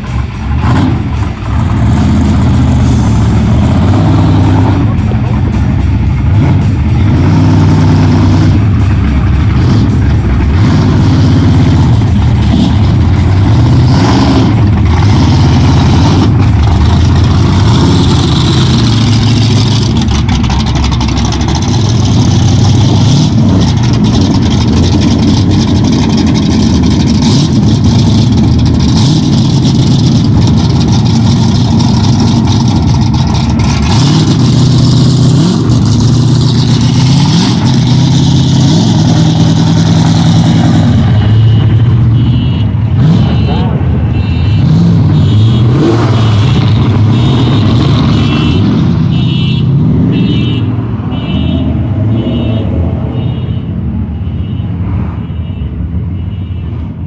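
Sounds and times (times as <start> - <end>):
loud car engine running: 0.0 - 54.2.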